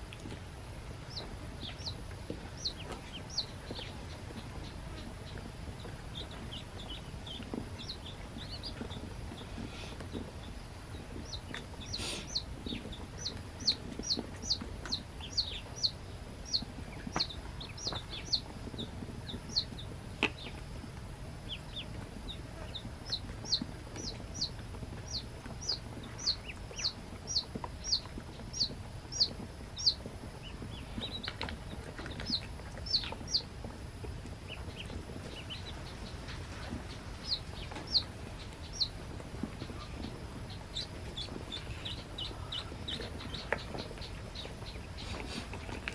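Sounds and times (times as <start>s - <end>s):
ducklings peeping: 0.0s - 45.9s
low background hum: 0.0s - 45.9s.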